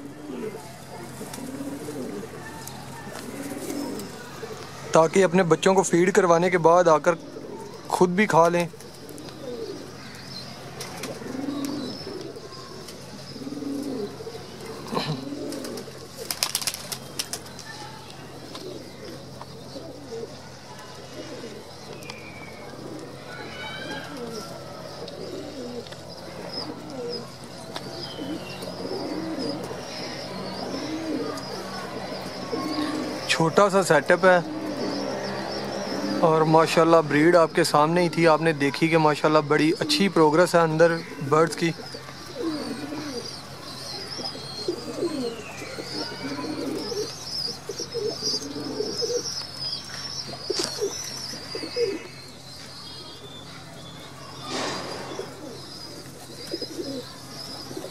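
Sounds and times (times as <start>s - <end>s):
beaks pecking grain on concrete: 0.0s - 38.0s, 38.8s - 57.9s
pigeons cooing: 0.0s - 57.9s.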